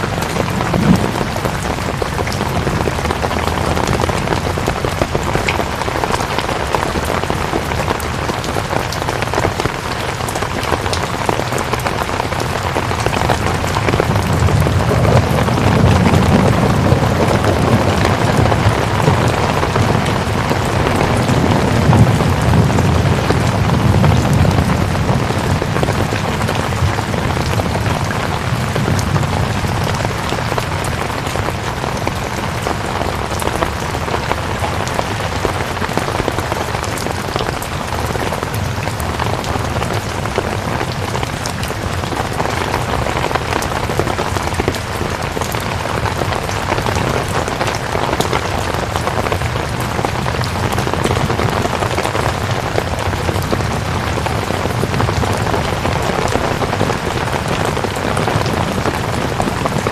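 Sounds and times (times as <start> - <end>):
dense rainfall: 0.0 - 59.9.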